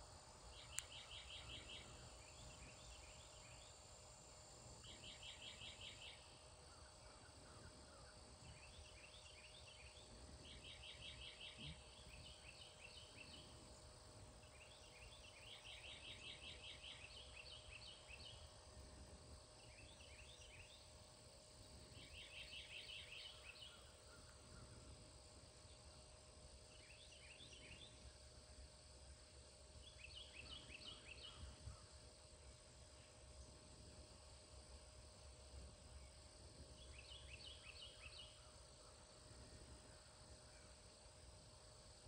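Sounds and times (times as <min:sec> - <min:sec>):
songbird chirping: 0:00.0 - 0:42.0.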